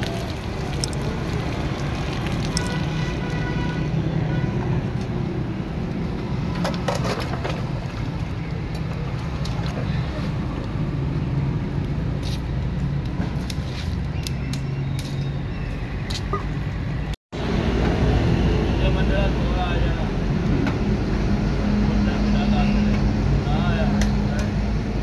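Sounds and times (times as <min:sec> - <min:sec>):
traffic engine rumble: 0:00.0 - 0:25.0.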